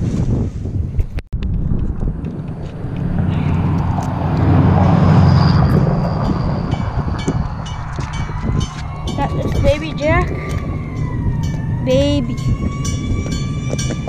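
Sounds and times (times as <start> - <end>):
vehicle passing rumble: 1.4 - 14.0.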